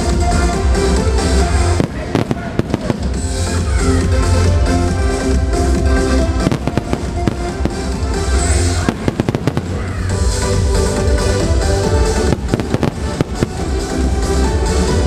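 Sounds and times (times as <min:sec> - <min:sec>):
fireworks bursting and crackling: 0:00.0 - 0:15.0
music with heavy bass: 0:00.0 - 0:15.0.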